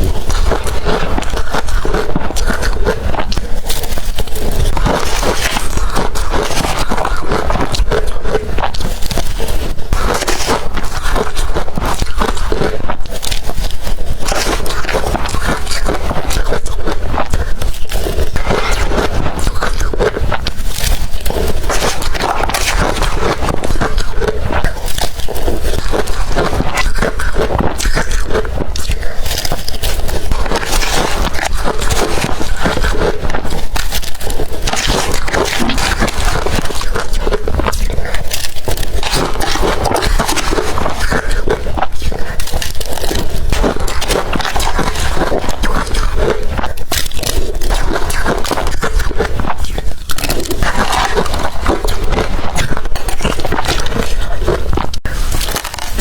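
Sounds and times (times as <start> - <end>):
crushed ice crunching in mouth: 0.0 - 56.0
swallowing: 0.0 - 56.0.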